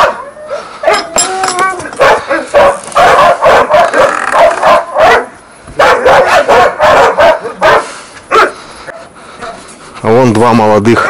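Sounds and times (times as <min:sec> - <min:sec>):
dogs barking: 0:00.0 - 0:09.6.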